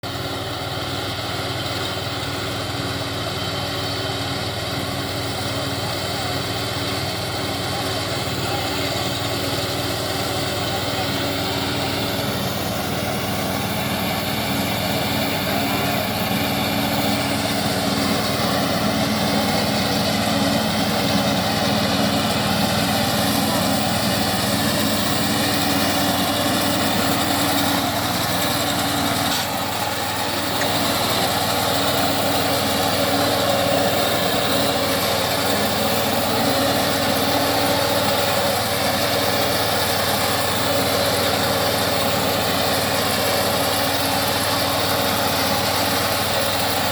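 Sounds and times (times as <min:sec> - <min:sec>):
petrol engine running: 0:00.0 - 0:46.9.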